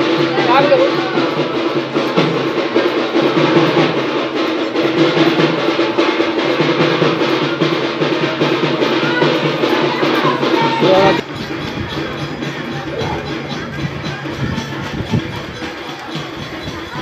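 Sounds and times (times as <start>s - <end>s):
rapid continuous drumming: 0.0s - 17.0s.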